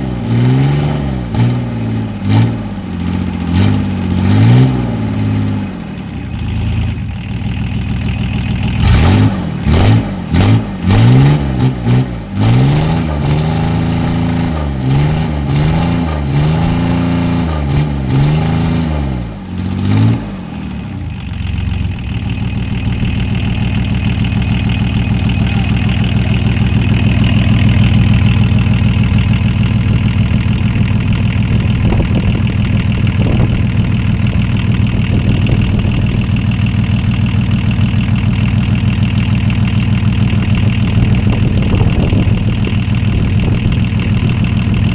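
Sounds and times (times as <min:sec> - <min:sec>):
diesel engine revving and idling: 0:00.0 - 0:44.9.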